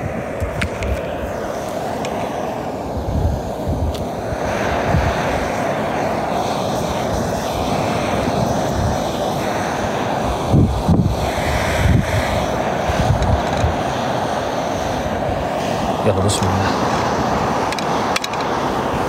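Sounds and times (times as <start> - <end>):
gas stove burner roaring: 0.0 - 19.0
wind buffeting microphone: 0.0 - 19.0.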